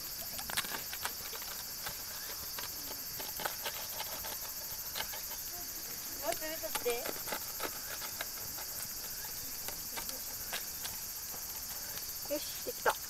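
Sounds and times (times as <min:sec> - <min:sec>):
pizza cutter crunching crust: 0:00.2 - 0:11.1.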